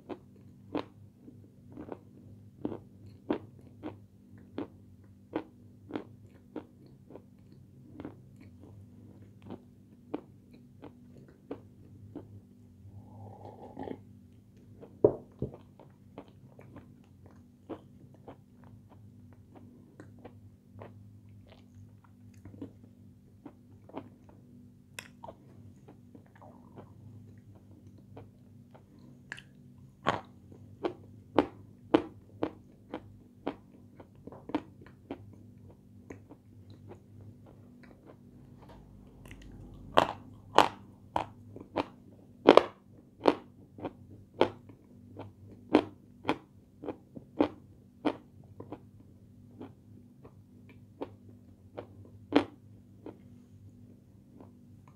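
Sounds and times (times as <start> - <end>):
person chewing crunchy food: 0.0 - 24.4, 25.0 - 53.3
low steady hum: 0.0 - 54.9.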